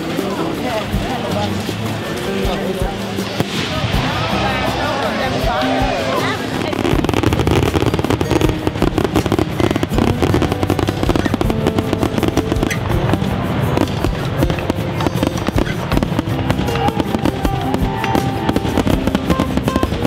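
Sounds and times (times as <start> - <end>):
fireworks crackling and popping: 0.0 - 20.0
music playing: 0.0 - 20.0.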